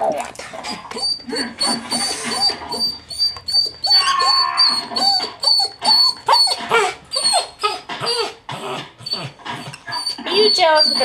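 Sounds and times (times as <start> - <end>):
dog whining and yelping: 0.0 - 11.0.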